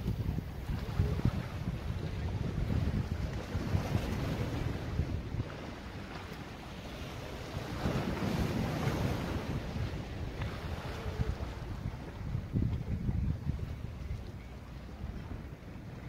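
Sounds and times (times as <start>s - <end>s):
waves washing against boat: 0.0s - 16.0s
wind buffeting microphone: 0.0s - 16.0s.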